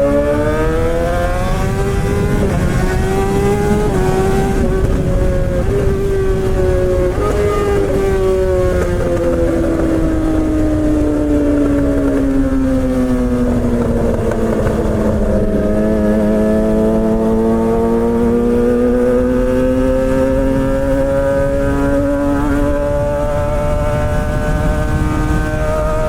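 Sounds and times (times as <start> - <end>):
motorcycle engine running: 0.0 - 26.0
wind rush: 0.0 - 26.0.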